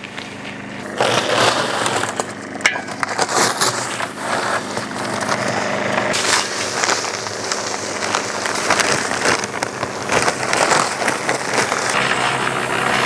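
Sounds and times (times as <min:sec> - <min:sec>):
mixer motor hum: 0:00.0 - 0:13.0
dry concrete mix pouring: 0:00.4 - 0:13.0.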